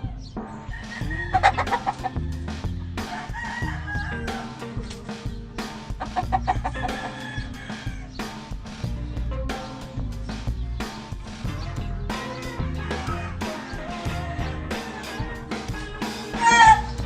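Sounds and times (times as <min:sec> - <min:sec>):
background music with drum beat: 0:00.0 - 0:17.0
roosters clucking: 0:00.0 - 0:17.0
roosters crowing: 0:00.0 - 0:17.0.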